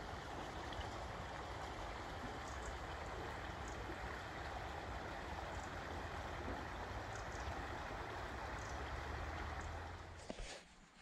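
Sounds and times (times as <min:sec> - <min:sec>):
water rushing over a weir: 0:00.0 - 0:10.3.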